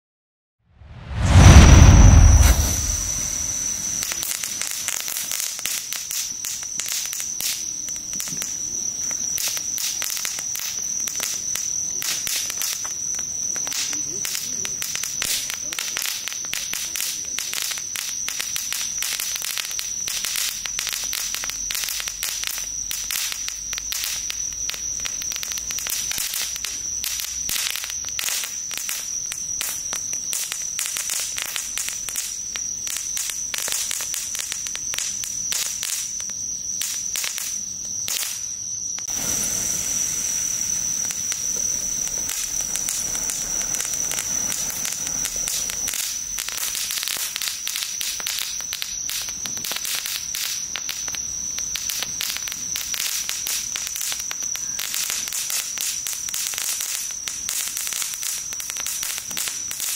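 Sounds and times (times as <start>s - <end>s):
firework fountain hissing: 0.8s - 59.9s
firework sparks crackling: 0.8s - 59.9s.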